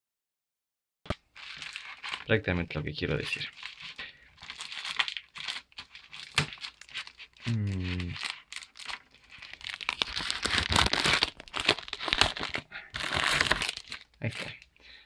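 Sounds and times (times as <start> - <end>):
plastic shrink-wrap crinkling and tearing: 1.1 - 14.6.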